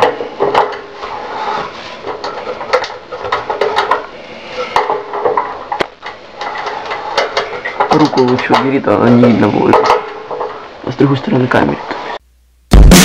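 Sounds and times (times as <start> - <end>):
rubbing and scraping: 0.0 - 10.8.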